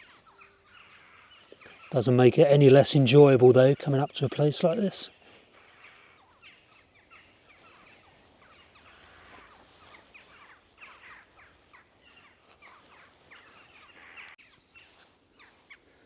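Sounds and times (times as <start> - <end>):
jackdaws calling: 0.0 - 16.0.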